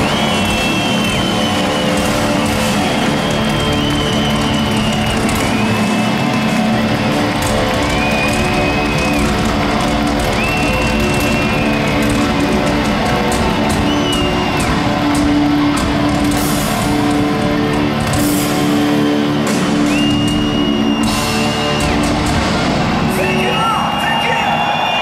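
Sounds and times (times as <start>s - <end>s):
heavy metal band playing live: 0.0s - 25.0s.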